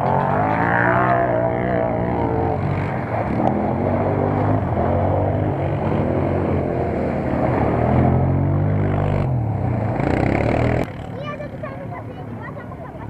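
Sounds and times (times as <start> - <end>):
off-road vehicle engine revving: 0.0 - 12.7
low engine hum: 0.0 - 13.0.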